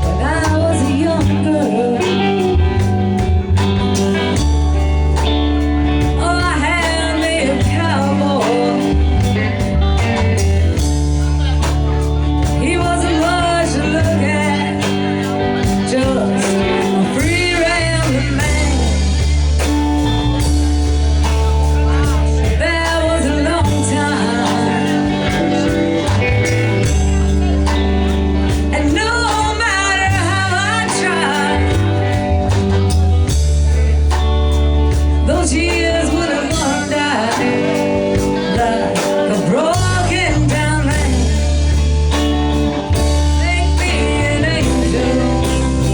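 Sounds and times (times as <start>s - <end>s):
person singing: 0.0s - 4.8s, 5.8s - 45.9s
live blues-rock band: 0.0s - 45.9s.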